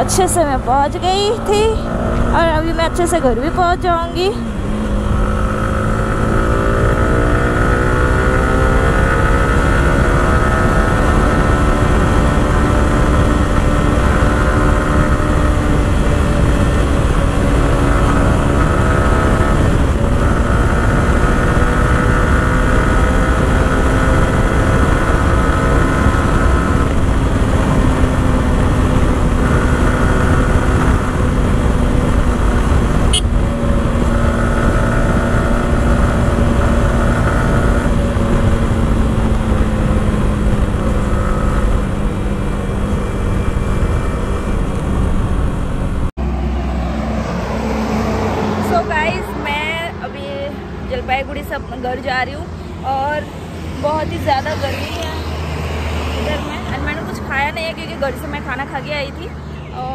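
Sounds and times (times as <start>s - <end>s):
motorcycle engine cruising: 0.0s - 59.9s
wind and road rumble: 0.0s - 59.9s.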